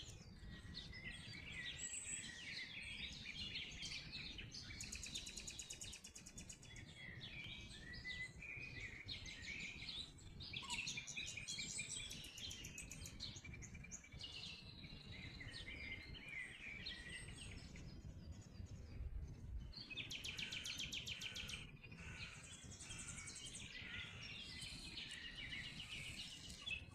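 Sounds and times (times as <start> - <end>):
songbirds singing: 0.0 - 26.9.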